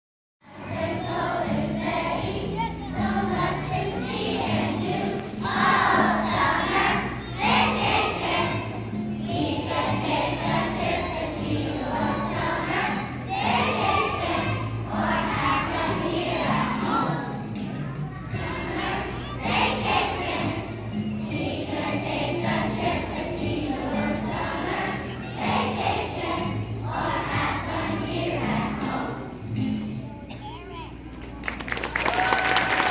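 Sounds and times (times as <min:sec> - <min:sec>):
children's choir singing: 0:00.4 - 0:30.0.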